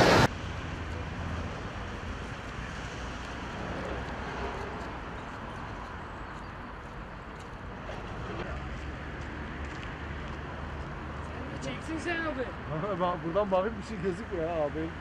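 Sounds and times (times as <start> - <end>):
steady outdoor noise: 0.0 - 15.0.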